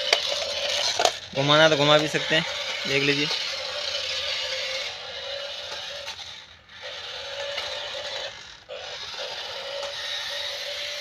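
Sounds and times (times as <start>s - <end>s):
toy car motors whirring: 0.0s - 11.0s.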